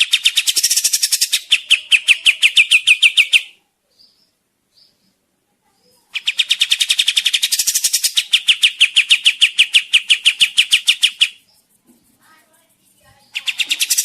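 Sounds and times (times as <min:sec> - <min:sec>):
bulbul singing: 0:00.0 - 0:05.2, 0:06.0 - 0:11.7, 0:13.1 - 0:14.0.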